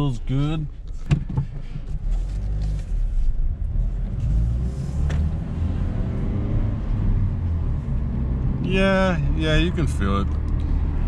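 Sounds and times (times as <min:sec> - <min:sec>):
road rumble inside car: 0:00.0 - 0:11.0
car engine accelerating: 0:01.8 - 0:11.0.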